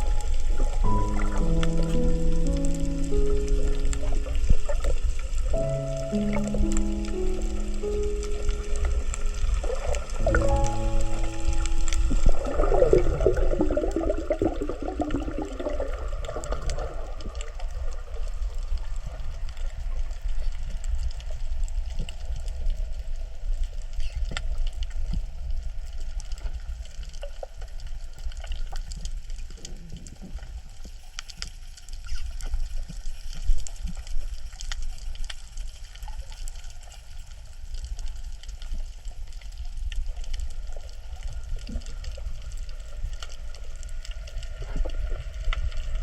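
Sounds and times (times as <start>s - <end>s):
crackle of fine clicks underwater: 0.0s - 46.0s
low rumble of water: 0.0s - 46.0s.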